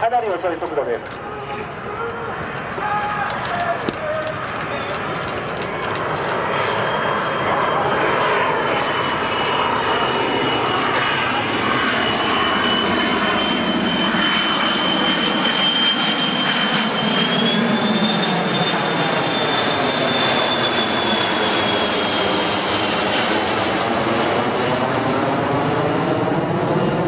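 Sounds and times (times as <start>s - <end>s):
jet engines with high whine: 0.0s - 27.0s.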